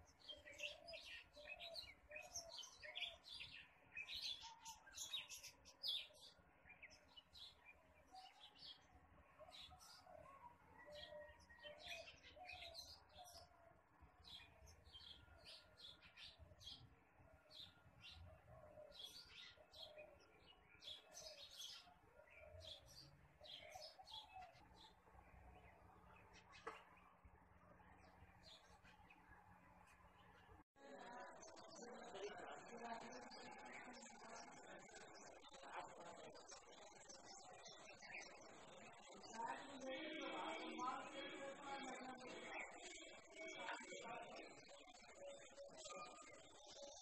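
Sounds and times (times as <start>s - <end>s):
small birds chirping: 0.0s - 13.6s, 14.2s - 47.0s.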